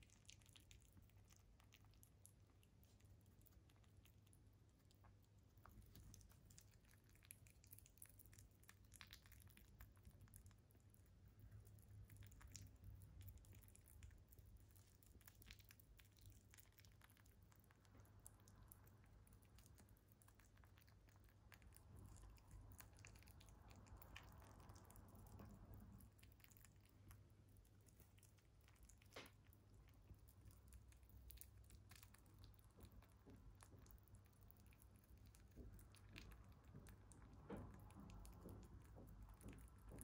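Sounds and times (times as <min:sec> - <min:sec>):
rabbit chewing and licking: 0:00.0 - 0:40.0.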